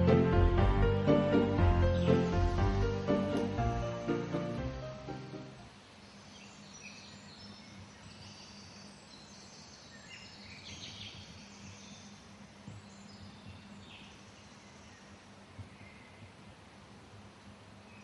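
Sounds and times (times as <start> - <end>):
birds chirping: 0.0 - 18.0
low background noise: 0.0 - 18.0.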